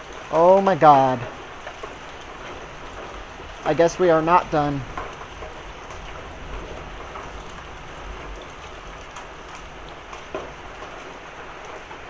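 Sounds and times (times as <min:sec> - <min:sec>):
hailstones ticking: 0:00.0 - 0:12.0
steady rain falling: 0:00.0 - 0:12.0.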